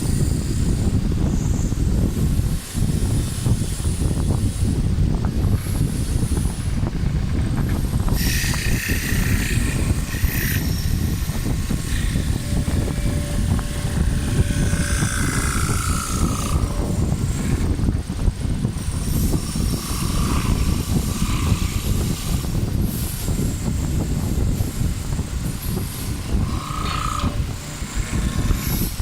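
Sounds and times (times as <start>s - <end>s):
high rasp: 5.5s - 29.0s
wood lathe running: 5.5s - 29.0s.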